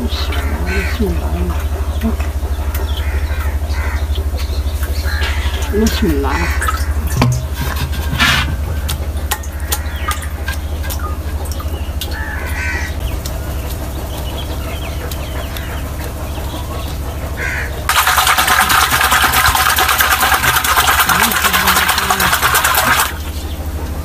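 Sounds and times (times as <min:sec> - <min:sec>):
birds calling: 0:00.0 - 0:24.0
steady low rumble: 0:00.0 - 0:24.0.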